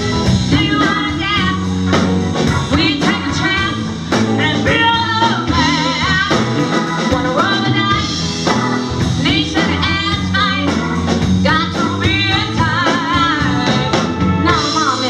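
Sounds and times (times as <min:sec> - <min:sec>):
bass line: 0:00.0 - 0:15.0
live rock blues band: 0:00.0 - 0:15.0
woman singing with vibrato: 0:00.5 - 0:01.8, 0:02.6 - 0:08.4, 0:09.2 - 0:15.0.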